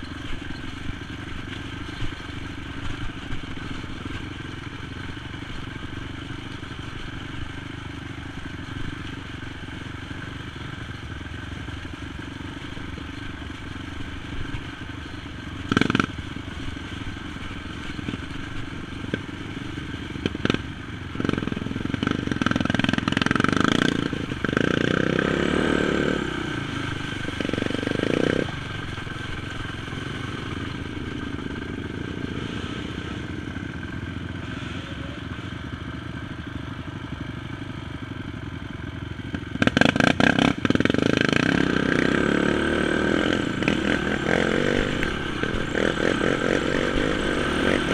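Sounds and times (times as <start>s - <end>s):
quad engine running: 0.0s - 47.9s.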